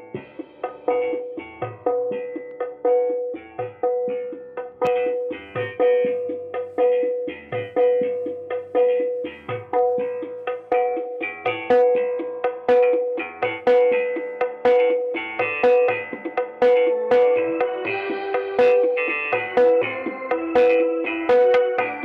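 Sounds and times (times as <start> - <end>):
percussion music through speakers: 0.0 - 22.0.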